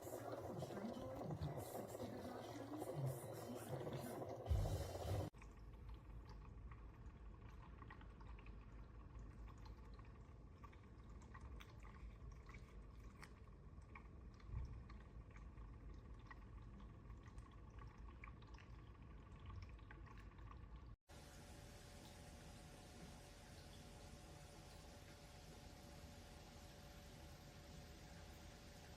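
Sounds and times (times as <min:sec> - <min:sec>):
faint steady hum: 0:00.0 - 0:28.9
water trickling and dripping: 0:00.0 - 0:28.9.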